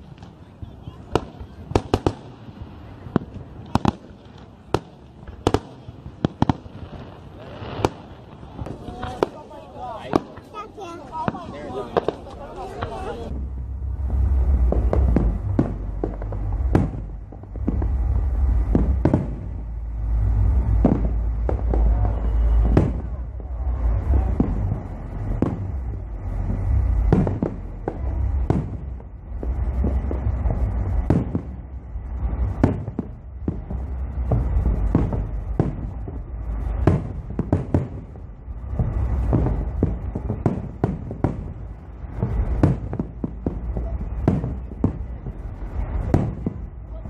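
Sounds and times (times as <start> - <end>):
fireworks cracks and booms: 0.0 - 47.0
low rumble: 0.0 - 47.0.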